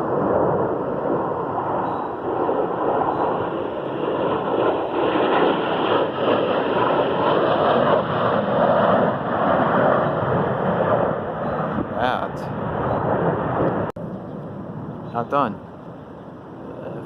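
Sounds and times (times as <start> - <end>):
jet aircraft flying past: 0.0 - 17.0.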